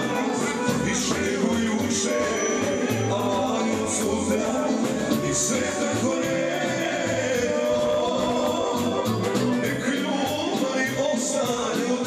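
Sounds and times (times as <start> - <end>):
folk band song with vocals: 0.0 - 12.0.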